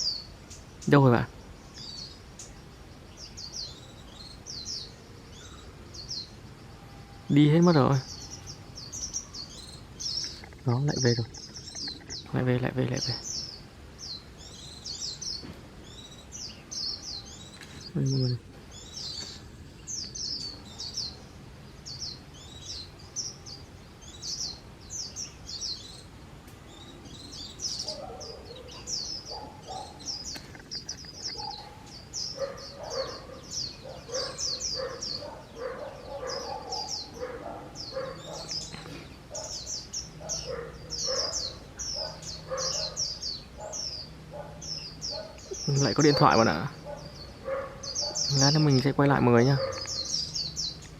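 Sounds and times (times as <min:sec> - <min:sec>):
birds twittering: 0:00.0 - 0:50.9
lower repeated bird notes: 0:00.0 - 0:50.9.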